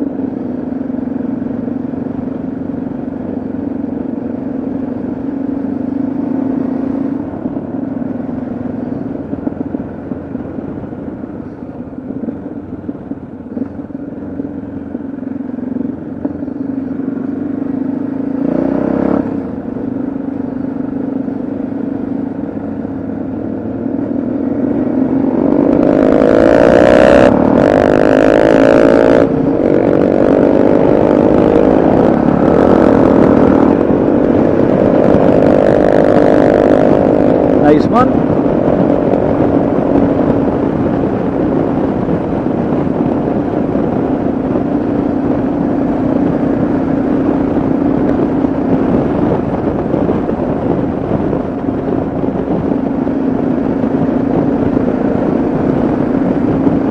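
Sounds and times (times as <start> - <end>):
motorcycle engine running: 0.0 - 56.9
wind rushing over microphone: 0.0 - 56.9.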